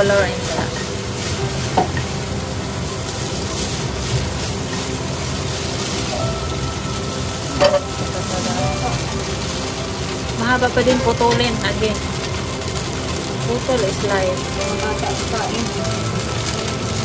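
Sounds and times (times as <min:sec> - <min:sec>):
chopsticks stirring: 0:00.0 - 0:17.0
noodles and meat sizzling in pot: 0:00.0 - 0:17.0.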